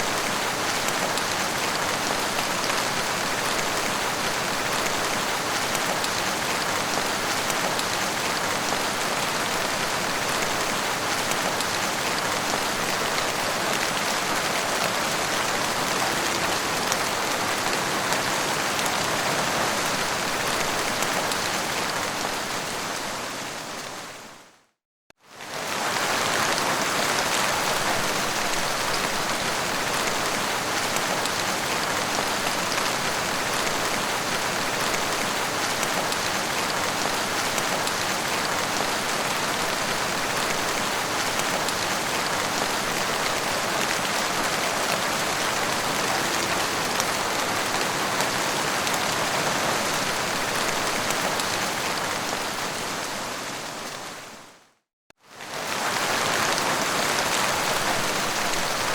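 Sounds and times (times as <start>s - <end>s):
heavy rain falling: 0.0s - 24.2s, 25.4s - 54.3s, 55.4s - 58.9s.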